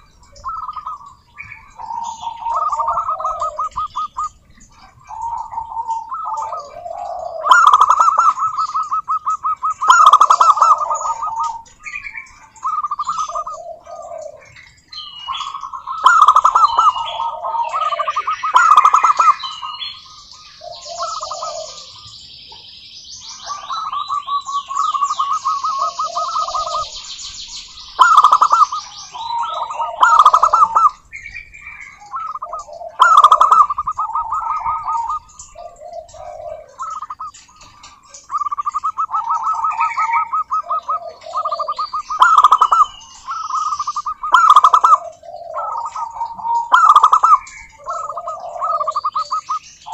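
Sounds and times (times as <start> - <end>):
doves cooing trills: 0.0 - 49.9
high thin bird chirping: 0.0 - 49.9.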